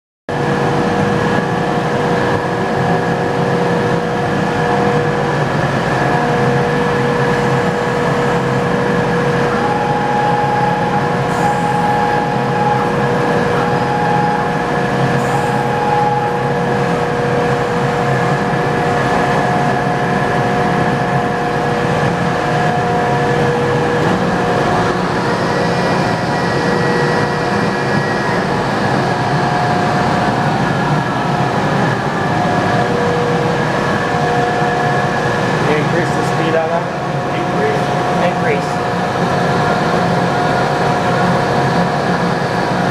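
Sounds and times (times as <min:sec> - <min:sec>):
lathe humming and whining: 0:00.3 - 0:42.9
higher machine tone: 0:02.1 - 0:42.9.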